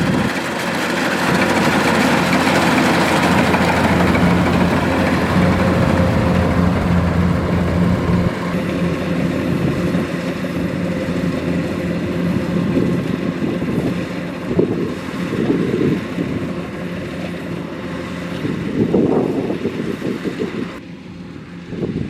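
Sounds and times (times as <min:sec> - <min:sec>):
combine harvester diesel engine: 0:00.0 - 0:22.0.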